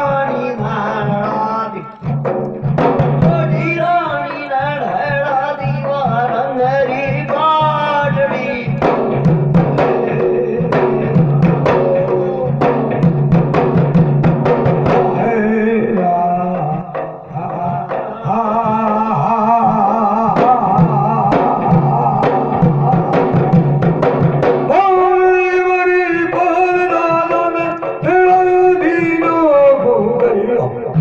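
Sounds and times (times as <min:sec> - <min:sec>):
hand drums beaten: 0:00.0 - 0:31.0.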